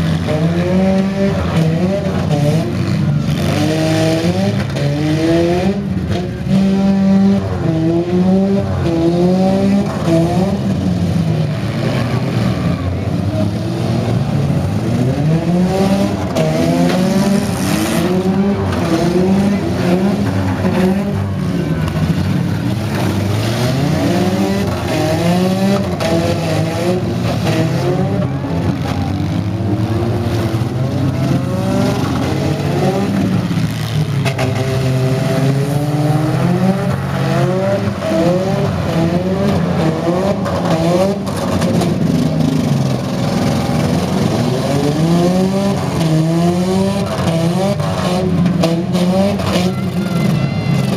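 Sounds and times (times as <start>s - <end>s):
several engines revving hard: 0.0s - 50.9s.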